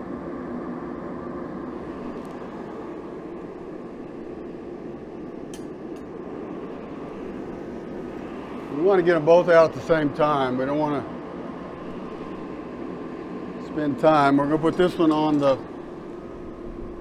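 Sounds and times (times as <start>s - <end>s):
gas forge roaring: 0.0s - 17.0s.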